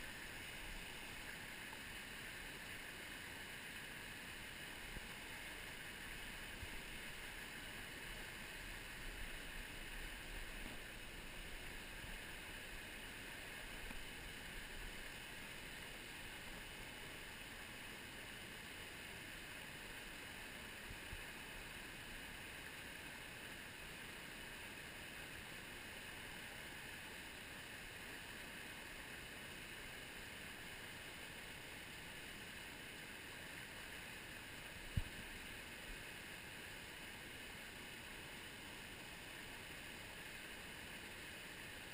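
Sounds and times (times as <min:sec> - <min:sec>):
brook running over rocks: 0:00.0 - 0:24.0, 0:29.6 - 0:41.9.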